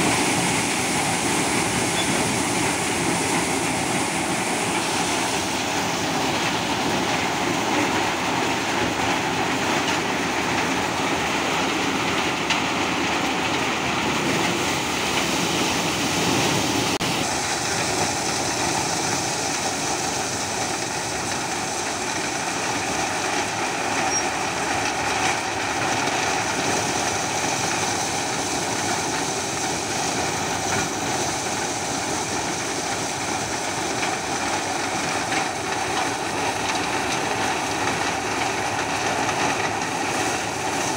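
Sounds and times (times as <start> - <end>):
shelling machine running: 0.0 - 40.9
tractor engine: 0.0 - 40.9.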